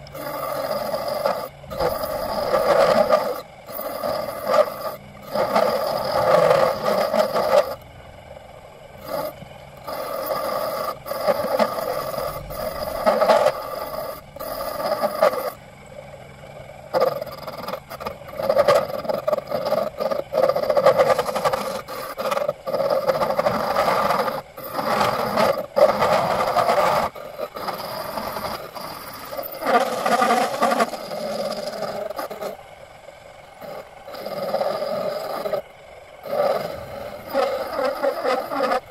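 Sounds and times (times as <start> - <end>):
hand scraping on metal: 0.2 - 7.8, 9.0 - 15.6, 17.0 - 32.6, 36.2 - 38.9.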